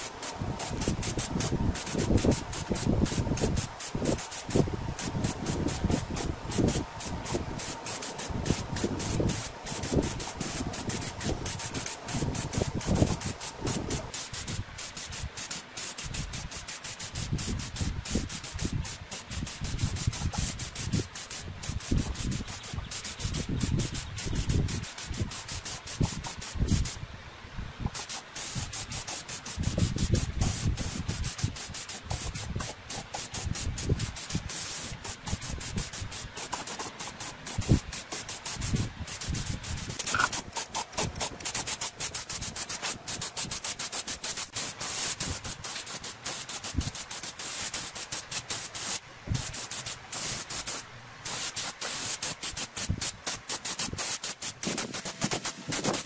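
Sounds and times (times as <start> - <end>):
spray gun hissing: 0.0 - 27.0, 27.8 - 56.0.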